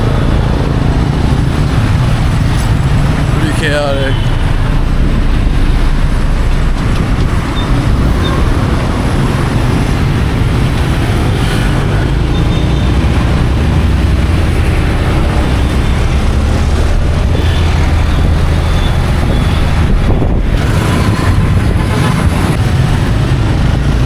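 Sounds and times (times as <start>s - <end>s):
city traffic road noise: 0.0s - 24.0s.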